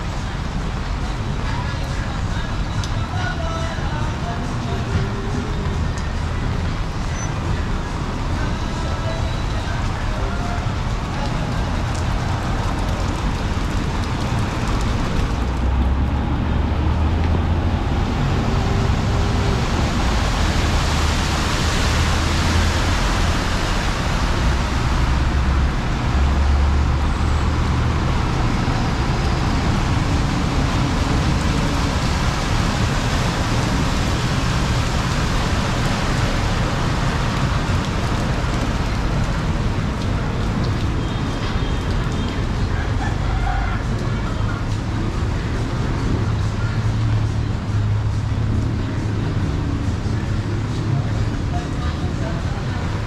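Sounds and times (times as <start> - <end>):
rain on wet street: 0.0 - 53.0.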